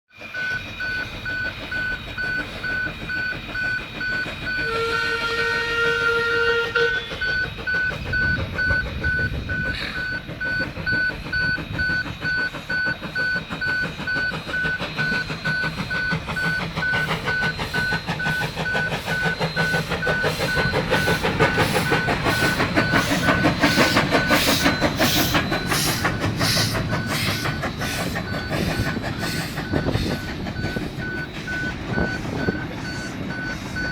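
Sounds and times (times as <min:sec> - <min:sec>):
train wheels clacking on rails: 0:00.1 - 0:33.9
level crossing alarm beeping: 0:00.2 - 0:33.9
steam locomotive whistle: 0:00.2 - 0:33.9.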